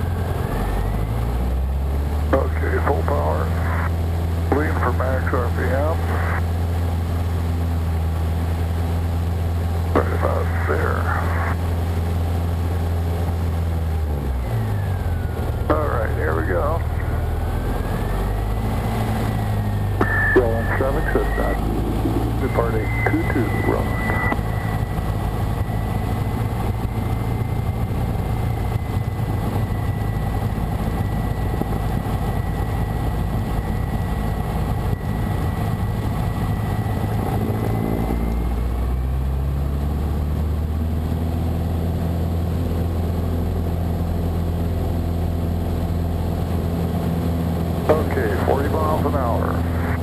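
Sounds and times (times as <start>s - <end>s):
light aircraft engine and propeller: 0.0s - 50.0s.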